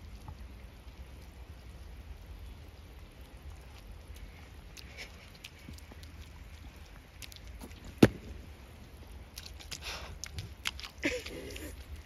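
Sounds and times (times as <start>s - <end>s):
rain pattering on paving stones: 0.0s - 12.0s.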